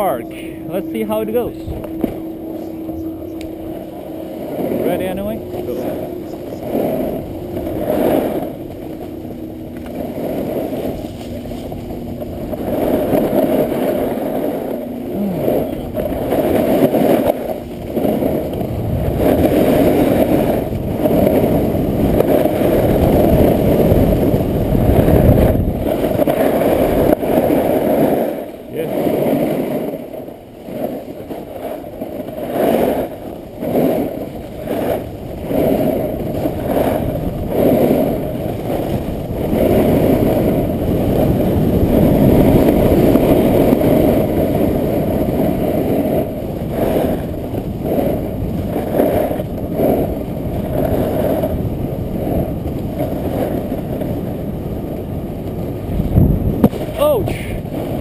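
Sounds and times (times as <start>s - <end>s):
muffled wind rush: 0.0s - 58.0s
snowboard scraping on snow: 4.4s - 58.0s.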